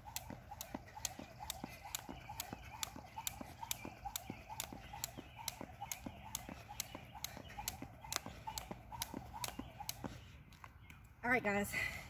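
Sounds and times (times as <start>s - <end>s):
jump rope slapping asphalt: 0.0s - 11.0s.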